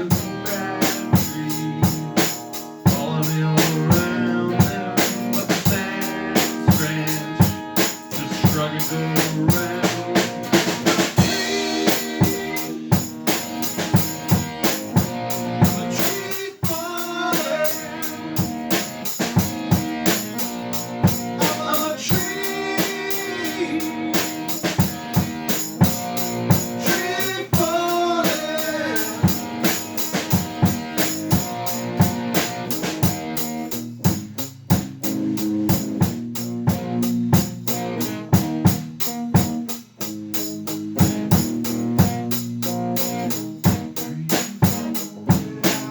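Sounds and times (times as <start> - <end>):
bass guitar: 0.0 - 45.9
drum kit beat: 0.0 - 45.9
pitch-bending lead guitar line: 0.0 - 45.9.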